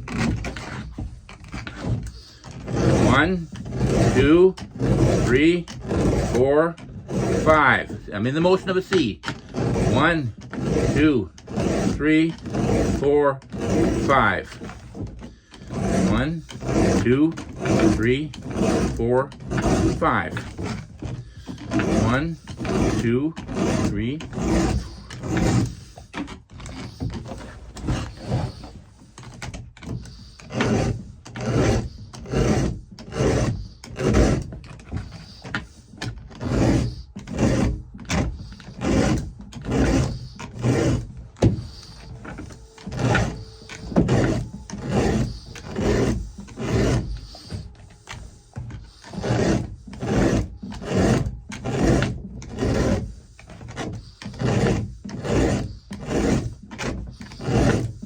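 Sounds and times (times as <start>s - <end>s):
file rasping on chainsaw chain: 0.0s - 58.0s.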